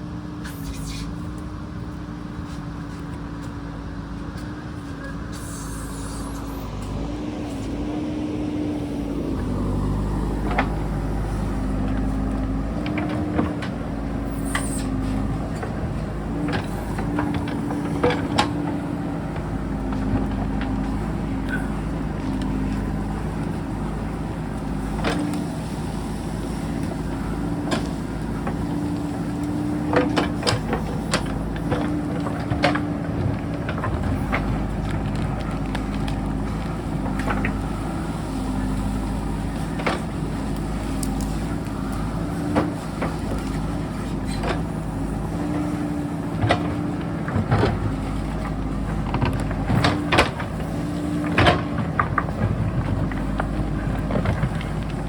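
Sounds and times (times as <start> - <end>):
backhoe diesel engine working: 0.0 - 55.0.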